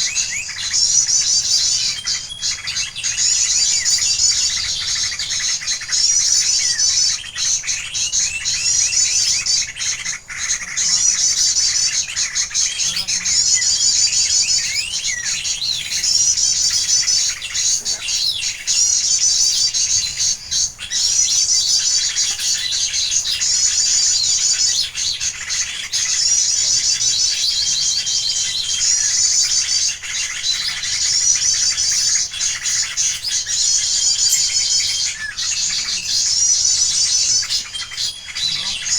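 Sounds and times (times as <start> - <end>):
bird chirps and calls: 0.0 - 38.9
bird trilling: 0.0 - 38.9.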